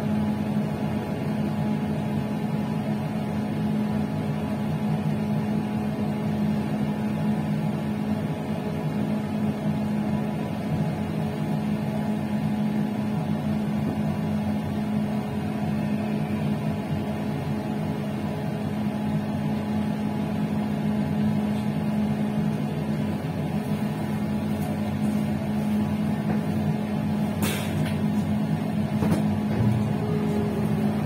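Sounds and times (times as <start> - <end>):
train rumbling on track: 5.5 - 31.0.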